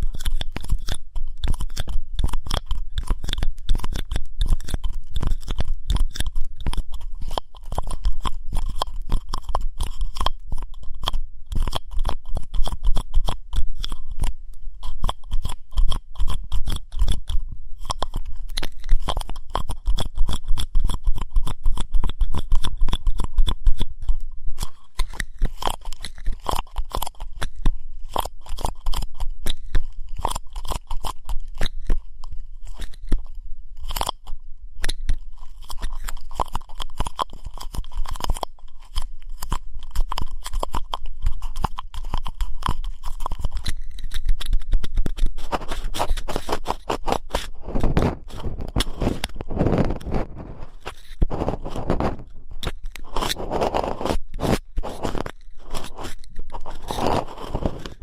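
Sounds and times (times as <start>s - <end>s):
ear pick scratching: 0.0s - 58.0s.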